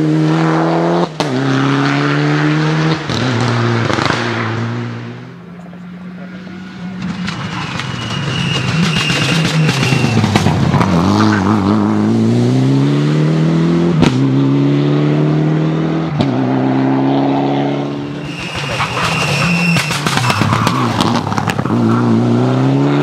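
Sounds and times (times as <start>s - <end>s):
rally car engine accelerating: 0.0s - 23.0s.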